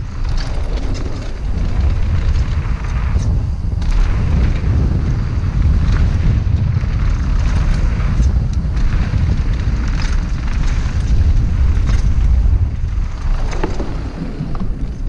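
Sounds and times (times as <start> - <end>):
bike rattling clicks: 0.0 - 15.0
wind buffeting microphone: 0.0 - 15.0.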